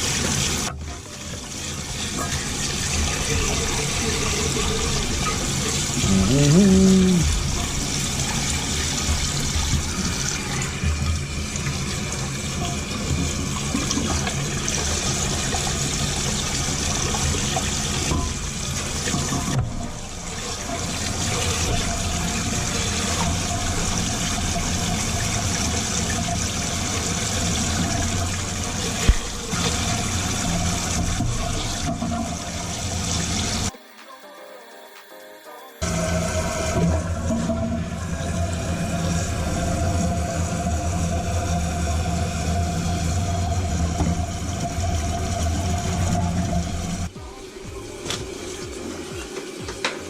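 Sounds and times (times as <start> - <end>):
toilet flushing and refilling: 0.0 - 33.9, 35.8 - 50.0.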